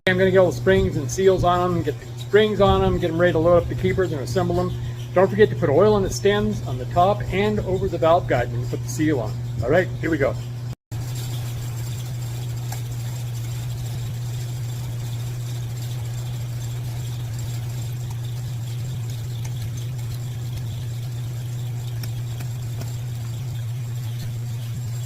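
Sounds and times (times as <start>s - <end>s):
low mechanical hum: 0.1s - 25.0s.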